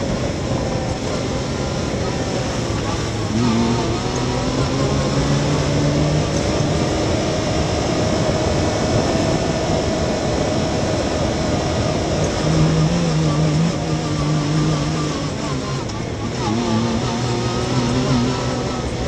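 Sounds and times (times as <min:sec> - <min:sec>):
engine running under load: 0:00.0 - 0:19.0
wind and tyre noise: 0:00.0 - 0:19.0.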